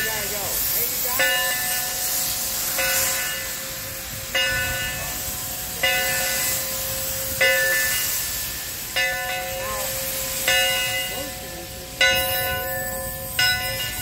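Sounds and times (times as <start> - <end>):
steam hissing: 0.0 - 14.0
steam locomotive bell ringing: 0.0 - 14.0.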